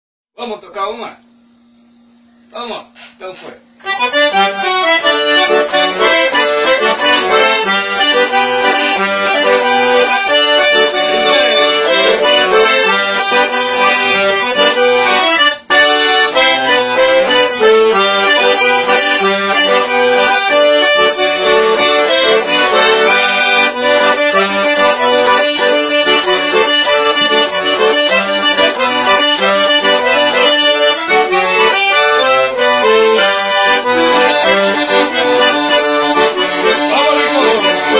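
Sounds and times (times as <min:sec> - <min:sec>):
accordion tune: 0:02.3 - 0:37.9.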